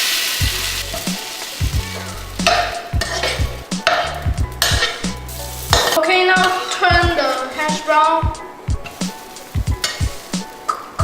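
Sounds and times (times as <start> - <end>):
food sizzling in butter: 0.0 - 11.0.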